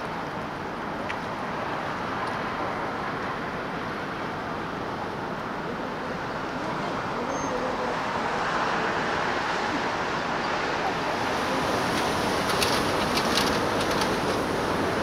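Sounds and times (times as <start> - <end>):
rushing harbour ambience: 0.0 - 15.0.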